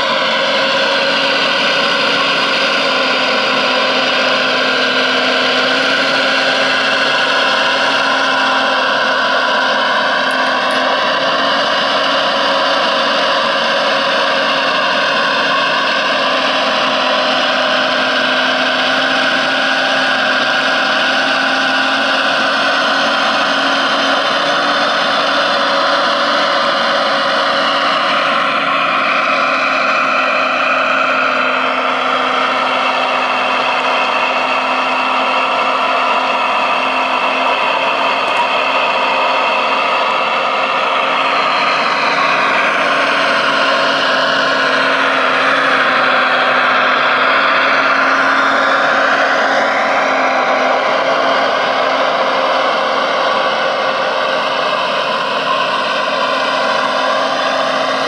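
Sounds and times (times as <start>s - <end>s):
model machines whining and humming: 0.0s - 58.0s.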